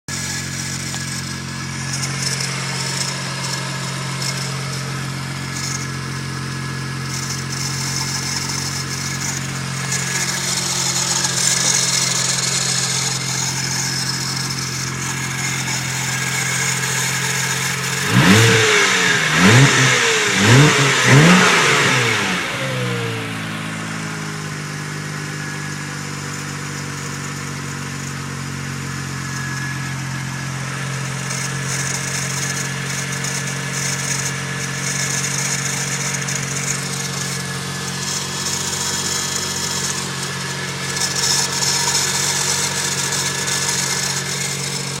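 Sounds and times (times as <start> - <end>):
car engine idling and revving: 0.0 - 45.0.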